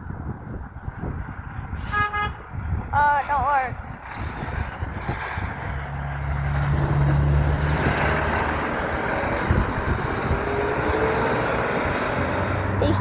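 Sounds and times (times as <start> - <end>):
truck engine passing: 0.9 - 13.0.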